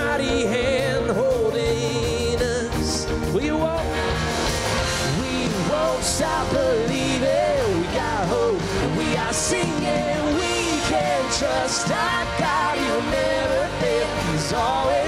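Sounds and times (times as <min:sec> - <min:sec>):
electric guitars: 0:00.0 - 0:15.0
keyboard: 0:00.0 - 0:15.0
people singing: 0:00.0 - 0:15.0
rock band playing: 0:00.0 - 0:15.0.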